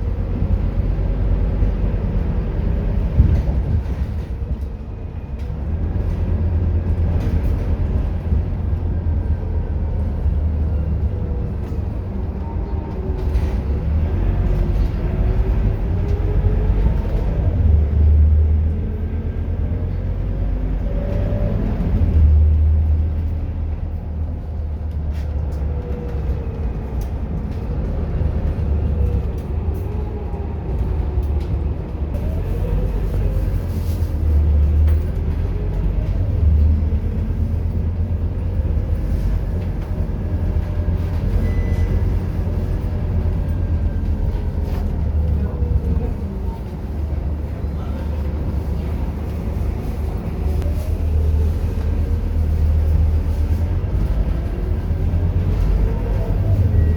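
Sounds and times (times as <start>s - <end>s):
bus engine rumble: 0.0s - 56.9s.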